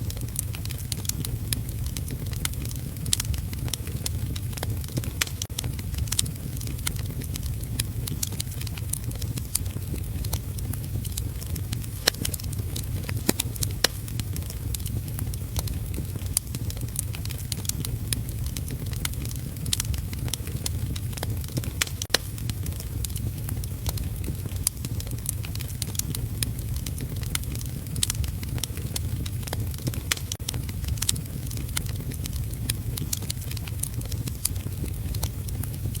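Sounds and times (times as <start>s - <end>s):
heavy rain rumble: 0.0s - 36.0s
wood fire crackling: 0.0s - 36.0s.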